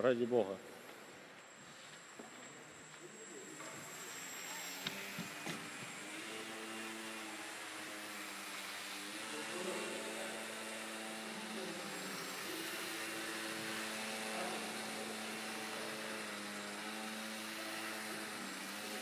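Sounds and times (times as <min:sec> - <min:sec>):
model aircraft propeller buzzing: 0:02.6 - 0:19.0.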